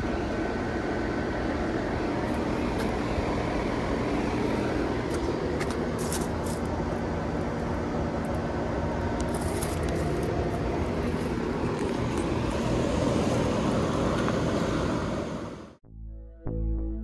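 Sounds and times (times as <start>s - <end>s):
compressor hum: 0.0s - 15.8s
condenser fans rushing: 0.0s - 15.8s.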